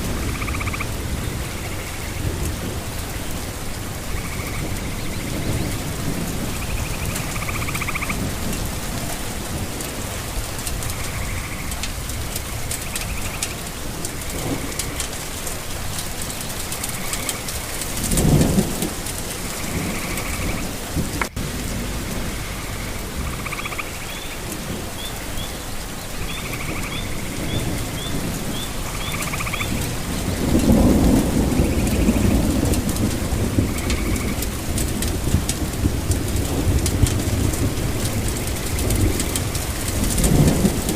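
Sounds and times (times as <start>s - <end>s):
rain falling: 0.0s - 40.9s
thunder rumbling: 0.0s - 40.9s.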